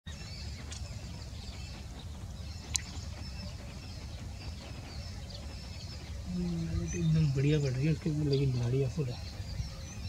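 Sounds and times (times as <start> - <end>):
birds chirping and calling: 0.1 - 10.0.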